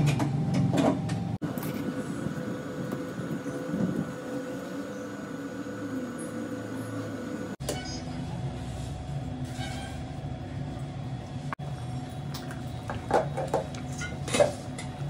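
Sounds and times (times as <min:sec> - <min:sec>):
mechanical drone humming: 0:00.0 - 0:13.2.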